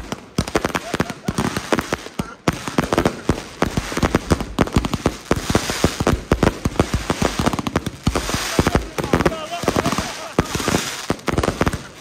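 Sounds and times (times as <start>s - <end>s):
fireworks shots and bangs: 0.0s - 12.0s.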